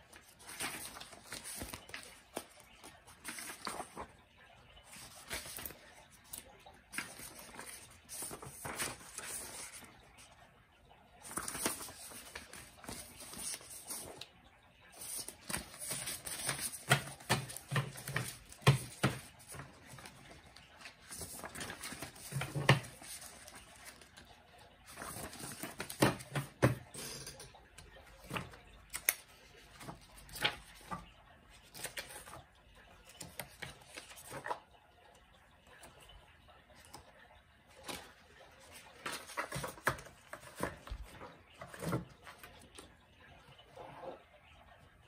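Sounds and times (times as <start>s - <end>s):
newspaper rustling: 0.0s - 10.5s, 11.2s - 26.9s, 27.9s - 34.7s, 37.7s - 42.9s
book pages flipping: 0.0s - 34.8s, 35.7s - 44.2s.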